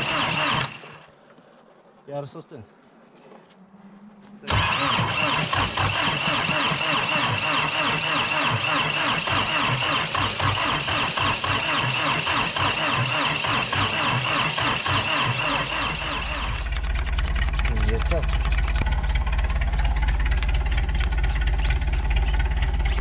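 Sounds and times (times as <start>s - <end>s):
diesel engine cranking on starter: 0.0s - 1.1s, 4.5s - 23.0s.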